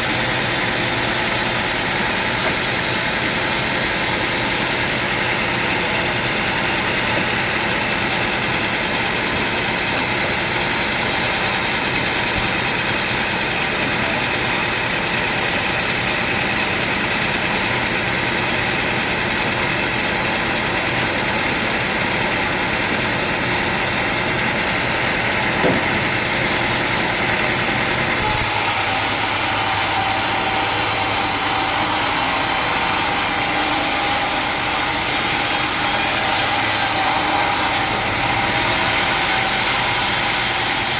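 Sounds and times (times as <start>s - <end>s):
sawmill machinery hum with whine: 0.0s - 40.9s.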